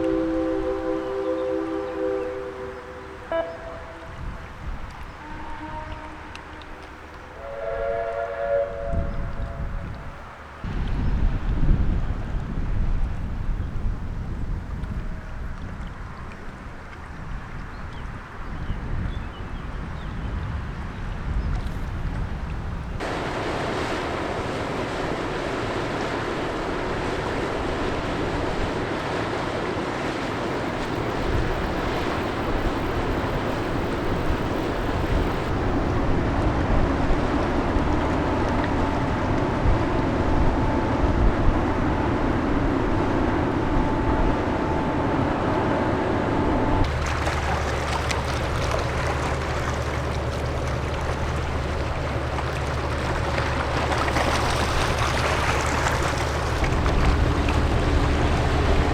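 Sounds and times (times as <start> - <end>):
wind on microphone: 0.0 - 6.8, 7.4 - 23.7, 30.3 - 58.9
ship engine drone: 0.0 - 12.4, 23.0 - 58.9
water wash: 0.0 - 58.9.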